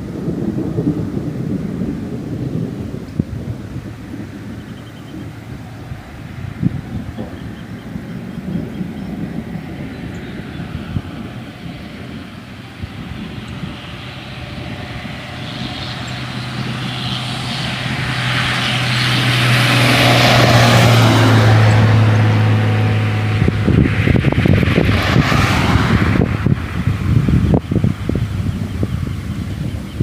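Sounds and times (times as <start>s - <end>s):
rough gusty noise: 0.0s - 30.0s.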